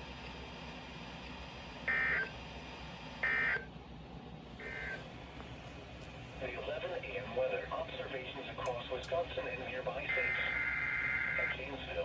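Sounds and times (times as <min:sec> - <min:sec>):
low hum and hiss: 0:00.1 - 0:12.0.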